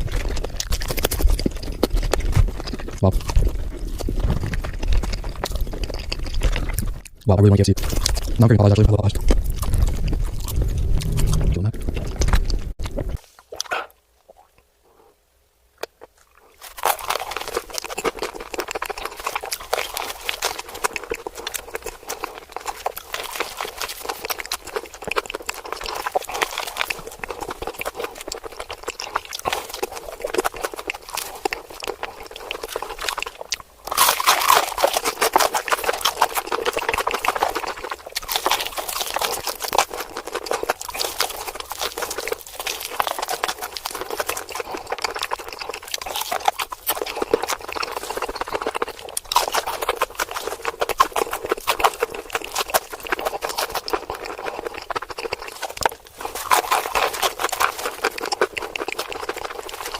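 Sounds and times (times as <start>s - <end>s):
crunching and chewing fried chicken: 0.0s - 15.0s, 15.8s - 59.9s.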